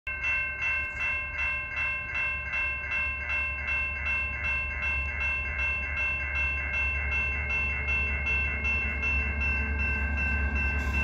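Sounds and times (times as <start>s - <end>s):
railroad crossing bell ringing: 0.1s - 11.0s.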